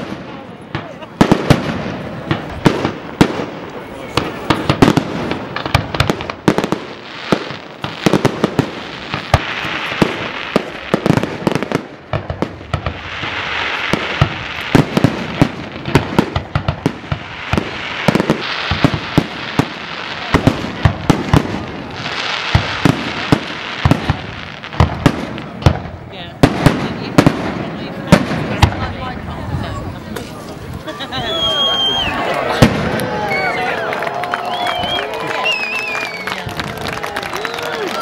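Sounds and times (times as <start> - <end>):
dense firework crackling: 0.0 - 38.0.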